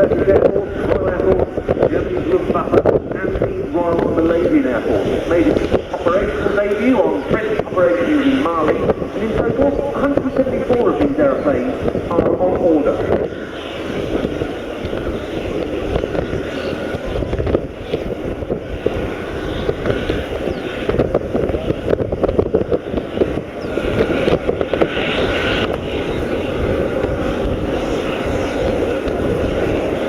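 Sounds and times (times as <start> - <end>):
turboprop engines droning: 0.0 - 30.0
wind buffeting microphone: 0.0 - 30.0.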